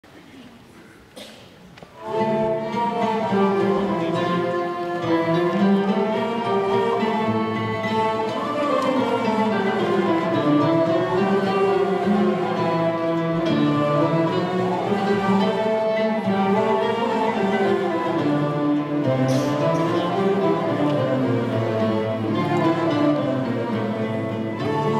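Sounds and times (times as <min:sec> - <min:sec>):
classical ensemble playing melody: 0:01.7 - 0:24.9.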